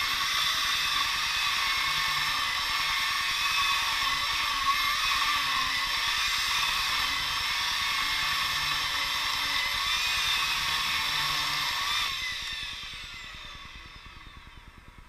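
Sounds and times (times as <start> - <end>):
electric chainsaw cutting wood: 0.0 - 14.9.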